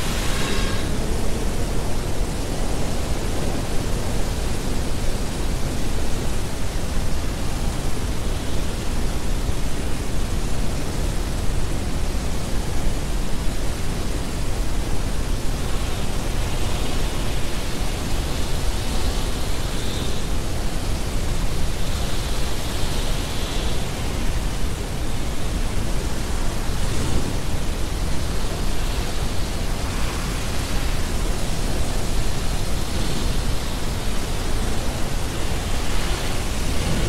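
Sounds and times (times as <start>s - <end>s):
dense rushing noise: 0.0s - 37.0s.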